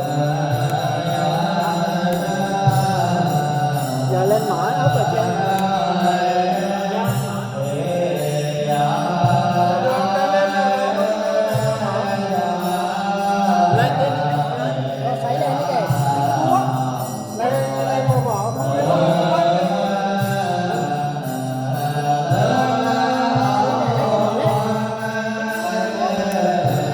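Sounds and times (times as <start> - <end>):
devotional chanting: 0.0 - 26.9.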